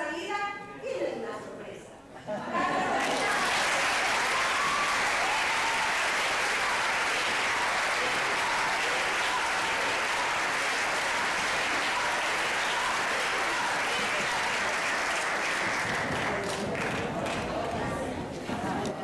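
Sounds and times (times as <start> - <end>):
audience applauding: 2.8 - 18.1.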